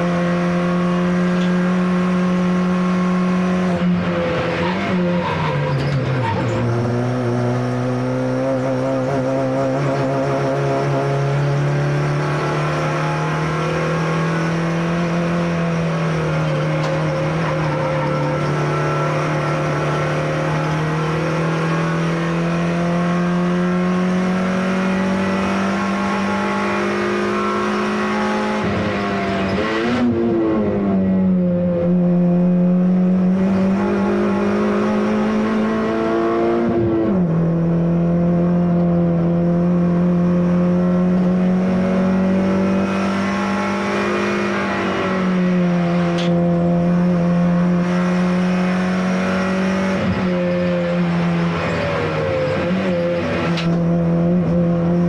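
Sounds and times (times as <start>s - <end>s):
car engine revving at racing pace: 0.0s - 55.0s.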